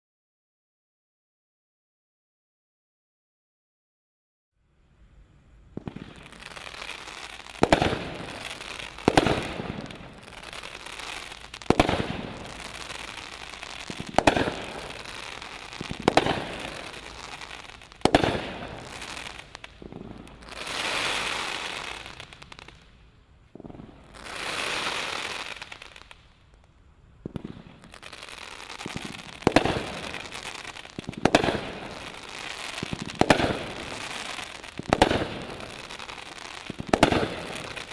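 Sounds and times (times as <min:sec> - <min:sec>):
long firework hisses: 0:04.6 - 0:37.9
firework crackling: 0:05.4 - 0:37.9
firework shots: 0:05.7 - 0:26.2, 0:27.2 - 0:37.9.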